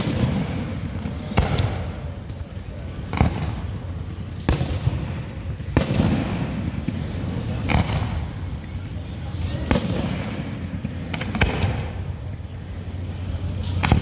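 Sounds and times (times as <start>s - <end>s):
continuous low rumble: 0.0s - 14.0s
fireworks booming: 0.0s - 14.0s
small fireworks pops: 0.0s - 14.0s.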